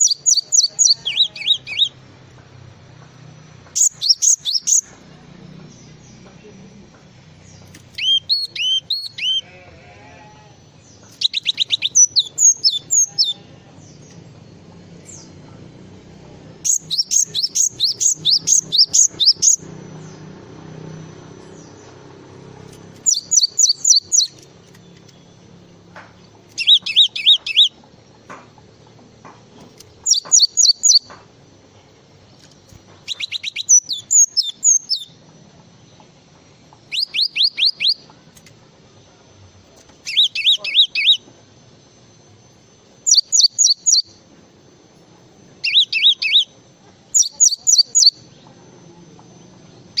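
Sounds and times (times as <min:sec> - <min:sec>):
great tit singing: 0:00.0 - 0:15.4, 0:16.6 - 0:31.3, 0:32.2 - 0:35.2, 0:35.9 - 0:38.5, 0:39.8 - 0:41.2, 0:42.9 - 0:44.2, 0:45.6 - 0:48.6.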